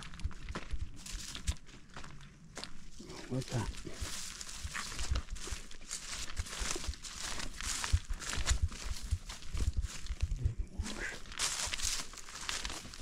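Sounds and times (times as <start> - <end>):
footsteps through dry leaves: 0.0 - 13.0.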